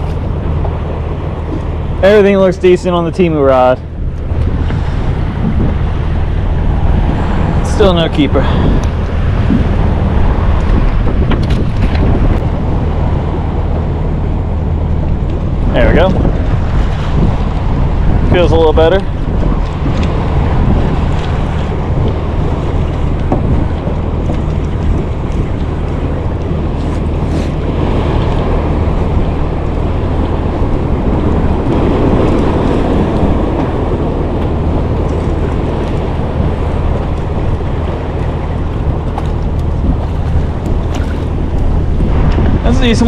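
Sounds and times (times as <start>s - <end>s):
waves around a boat: 0.0s - 43.0s
wind rushing over microphone: 0.0s - 43.0s.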